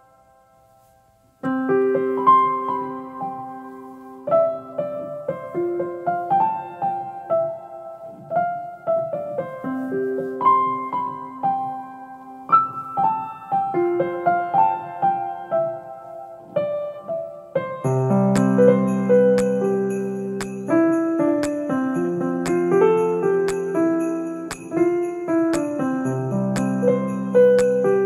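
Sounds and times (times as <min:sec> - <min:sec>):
gentle piano melody: 0:00.0 - 0:28.0.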